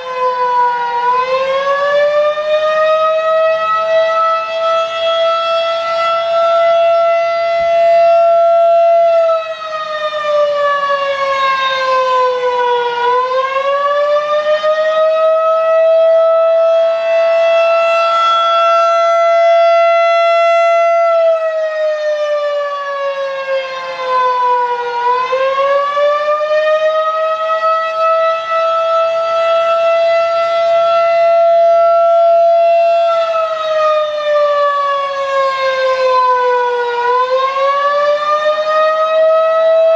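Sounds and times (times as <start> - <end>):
electromechanical siren steady tone: 0.0 - 39.9.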